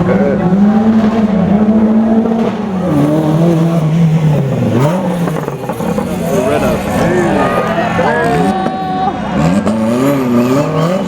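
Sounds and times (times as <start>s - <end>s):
rally car engine driving past: 0.0s - 11.0s.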